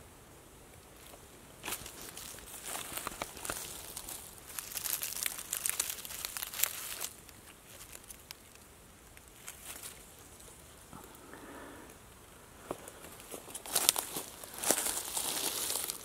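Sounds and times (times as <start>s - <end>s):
dry leaves and twigs crackling: 0.7s - 11.3s, 12.2s - 16.0s.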